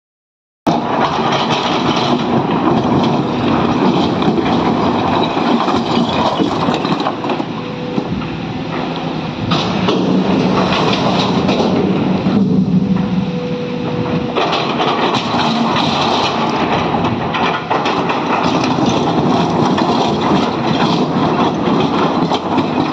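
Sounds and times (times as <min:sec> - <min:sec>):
excavator diesel engine under load: 0:00.7 - 0:22.9.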